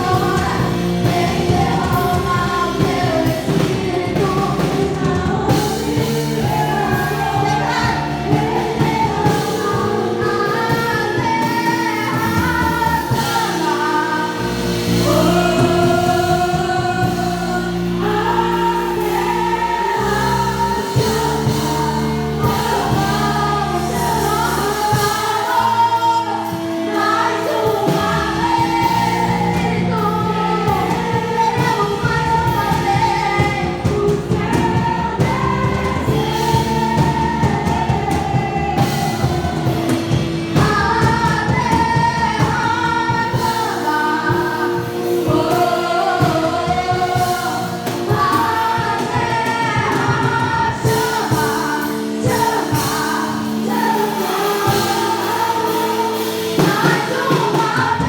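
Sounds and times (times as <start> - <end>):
band accompaniment with steady beat: 0.0 - 58.0
voices singing together: 0.0 - 58.0.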